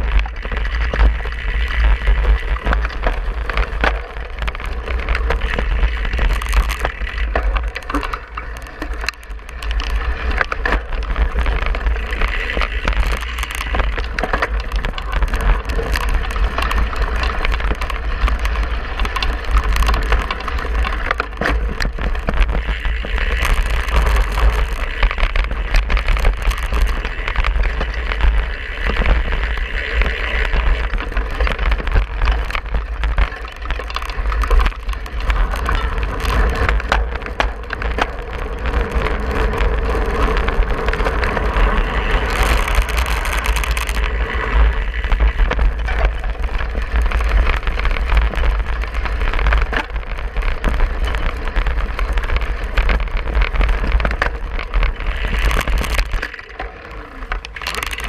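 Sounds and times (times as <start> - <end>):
bike rattling and clattering: 0.0 - 58.0
wind rumble on microphone: 0.0 - 58.0.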